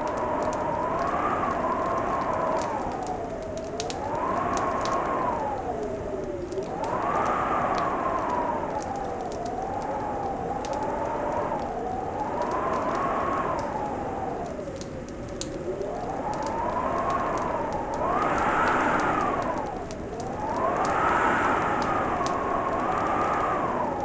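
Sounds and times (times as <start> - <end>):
fireplace crackling and popping: 0.0 - 24.0
howling wind: 0.0 - 24.0.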